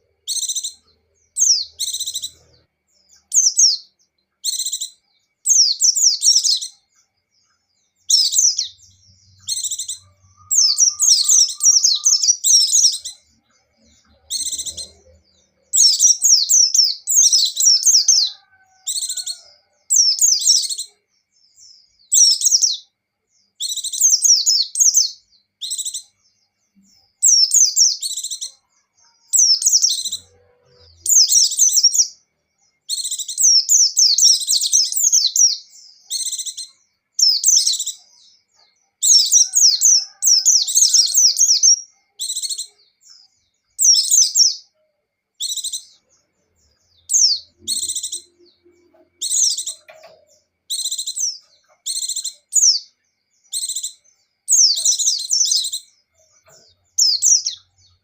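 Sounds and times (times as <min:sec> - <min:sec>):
bird twittering: 0:00.0 - 0:21.0, 0:23.6 - 0:26.2, 0:26.8 - 0:32.2, 0:32.8 - 0:44.8, 0:45.4 - 0:58.0.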